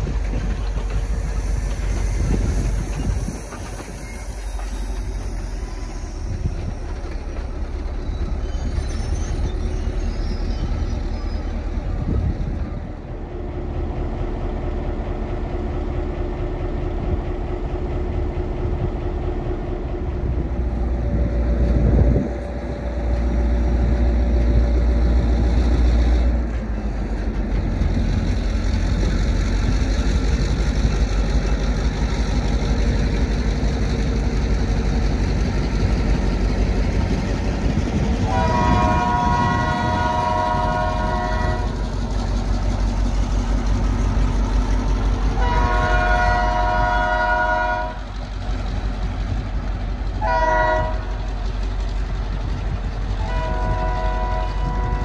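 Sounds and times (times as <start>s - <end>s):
diesel locomotive engine rumbling: 0.0s - 55.0s
train cars rolling on track: 0.0s - 55.0s.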